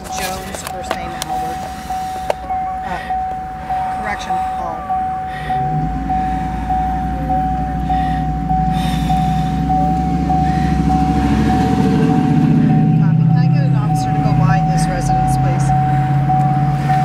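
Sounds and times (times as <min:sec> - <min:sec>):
car warning chime: 0:00.0 - 0:17.0
vehicle engine rumble: 0:00.0 - 0:17.0.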